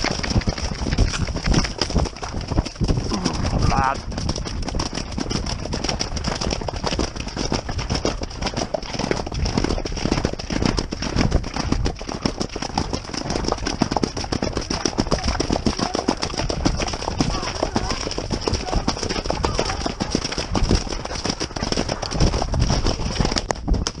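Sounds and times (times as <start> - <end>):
horse hoofbeats on grass: 0.0 - 24.0
wind noise on microphone: 0.0 - 24.0.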